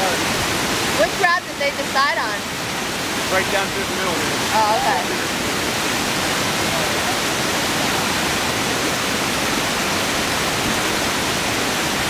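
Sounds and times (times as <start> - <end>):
whitewater rushing over boulders: 0.0 - 12.0.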